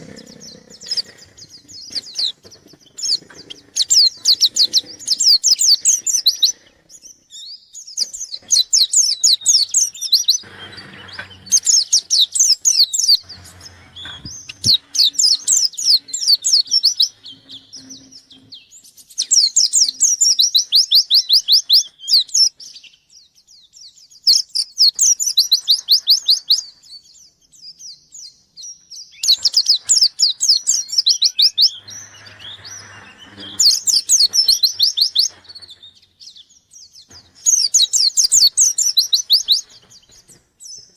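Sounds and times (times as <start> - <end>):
bird twittering: 0.0 - 22.8, 24.2 - 26.9, 29.1 - 40.8.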